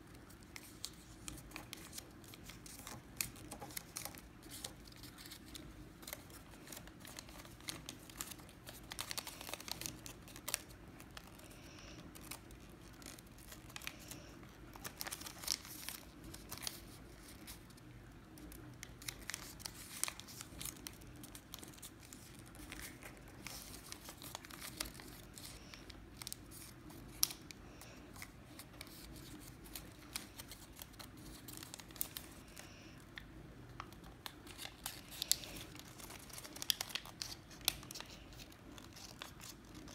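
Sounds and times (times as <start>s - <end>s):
paper folding and crinkling: 0.0s - 39.9s.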